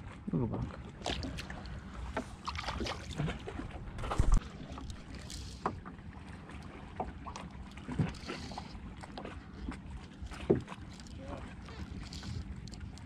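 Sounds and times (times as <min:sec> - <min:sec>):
water slapping against boat hull: 0:00.6 - 0:12.4.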